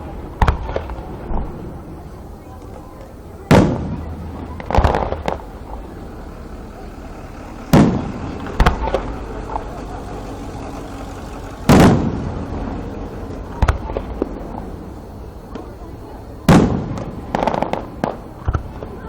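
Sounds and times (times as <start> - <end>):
fireworks bangs and pops: 0.0 - 19.0
fireworks booming: 0.0 - 19.0.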